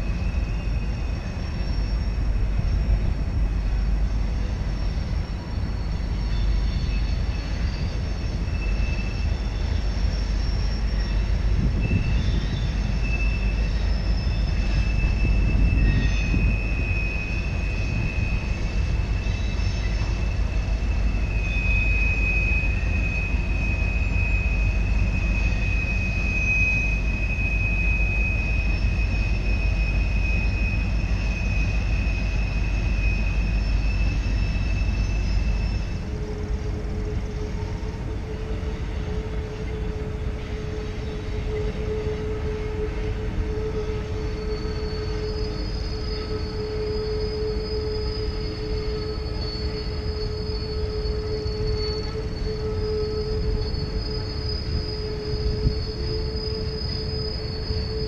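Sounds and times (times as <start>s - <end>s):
freight train rumble: 0.0s - 58.0s
train wheels squealing: 0.0s - 58.0s.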